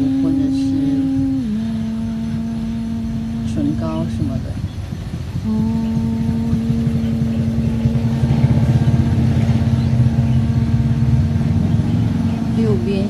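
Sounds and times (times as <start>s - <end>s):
steady hum: 0.0s - 13.0s
vehicle engine rumble: 0.0s - 13.0s.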